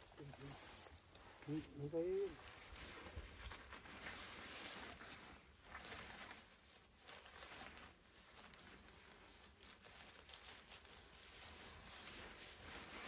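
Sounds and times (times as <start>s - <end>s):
faint soft rustles: 0.0s - 13.0s.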